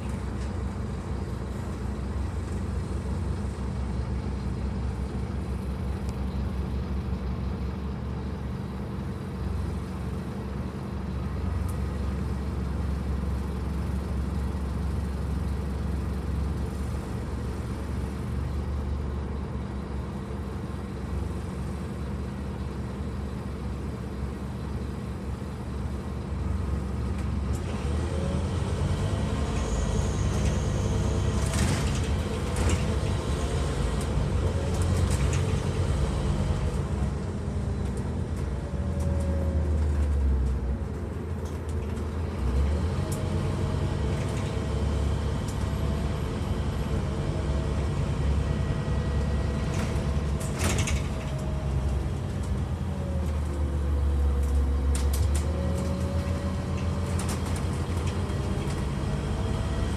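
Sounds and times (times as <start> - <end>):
bus diesel engine hum: 0.0 - 59.9.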